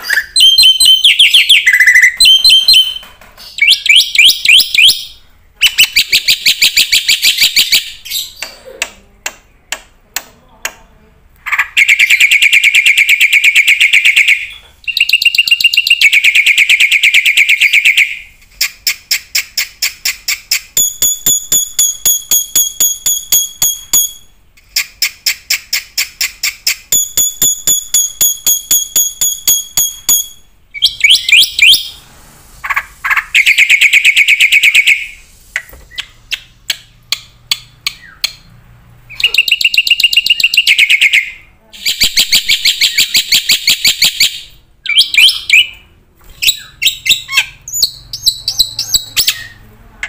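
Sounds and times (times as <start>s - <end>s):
high-pitched bird calls: 0.0s - 8.6s, 11.5s - 32.0s, 32.6s - 38.5s, 39.1s - 49.7s.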